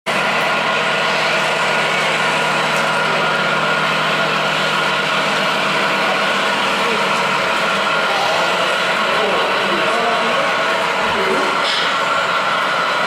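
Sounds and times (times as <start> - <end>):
engine idling hum: 0.1 - 13.0.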